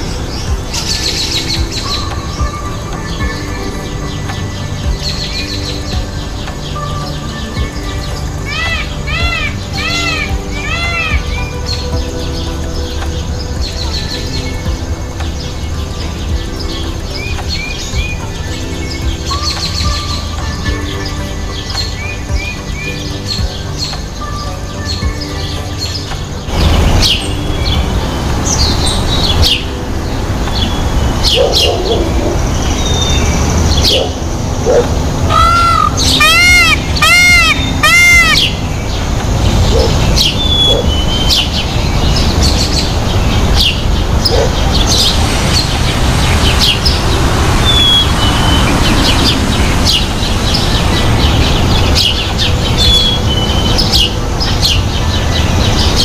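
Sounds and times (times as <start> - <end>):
loud rising-and-falling bird calls: 0.0 - 29.8, 30.5 - 56.0
birds chirping: 0.0 - 56.0.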